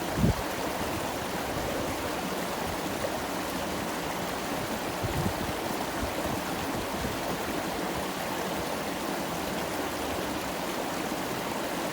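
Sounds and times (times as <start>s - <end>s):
stream flowing over rocks: 0.0s - 11.9s.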